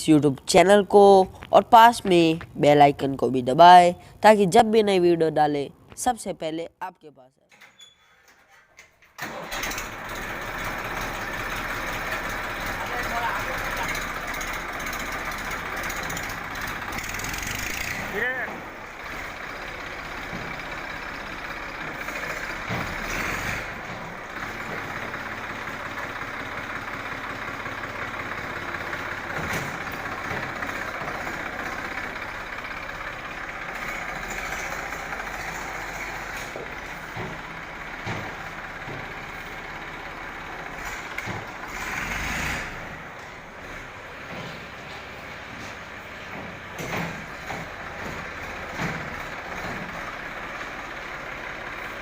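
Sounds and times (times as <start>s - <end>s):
tractor engine running: 8.3s - 52.0s.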